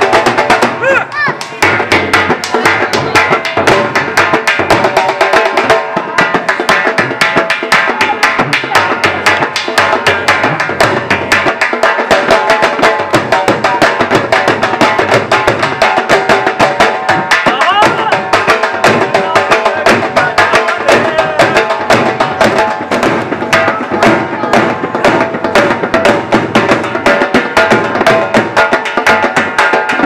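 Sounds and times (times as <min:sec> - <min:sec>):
dhol drum beating fast: 0:00.0 - 0:30.0.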